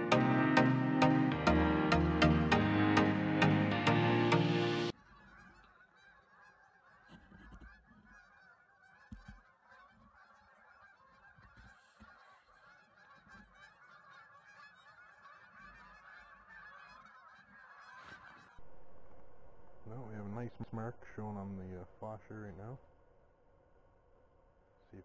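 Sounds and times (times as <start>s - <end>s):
distant geese honking: 0.0s - 25.0s.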